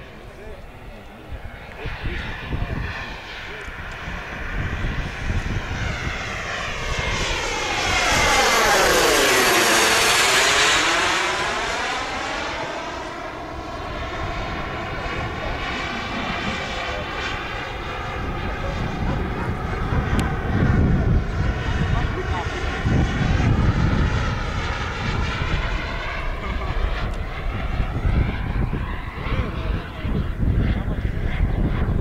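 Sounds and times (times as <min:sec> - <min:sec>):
model jet turbine passing: 0:00.0 - 0:32.0.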